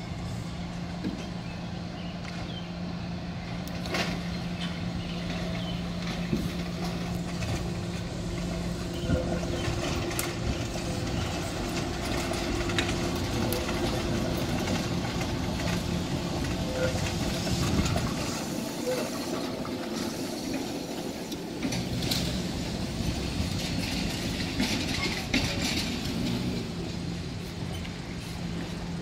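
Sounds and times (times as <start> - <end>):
trolley car electric hum: 0.0 - 29.0
wheels clicking on track: 0.0 - 29.0.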